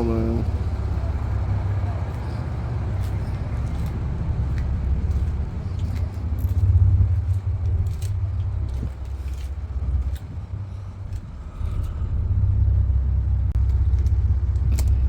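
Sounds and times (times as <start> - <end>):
concrete mixer truck engine rumbling: 0.0 - 15.0.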